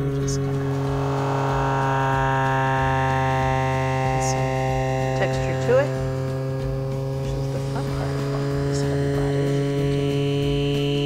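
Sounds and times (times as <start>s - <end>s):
electrical hum: 0.0s - 11.0s
short rising sound: 0.0s - 11.0s.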